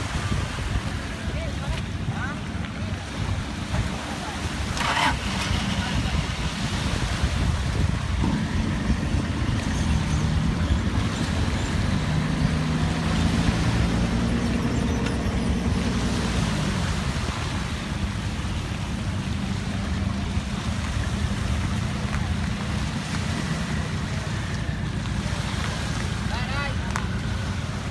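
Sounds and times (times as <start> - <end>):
boat engine running: 0.0 - 27.9.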